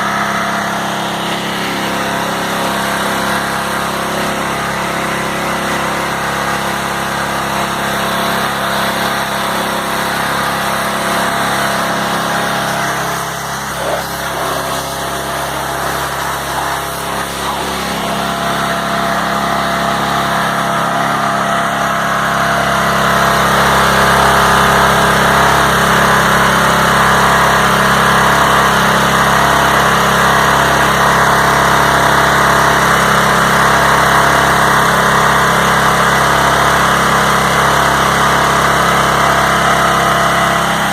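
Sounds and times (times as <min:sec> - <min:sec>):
pressure washer petrol engine: 0:00.0 - 0:40.9.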